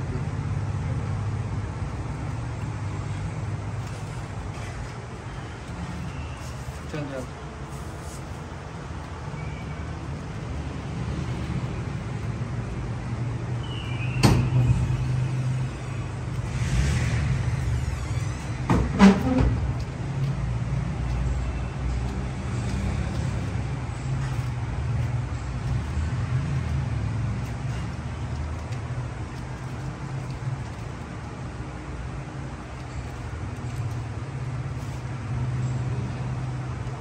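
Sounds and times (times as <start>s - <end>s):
motor engine rumbling: 0.0s - 37.0s.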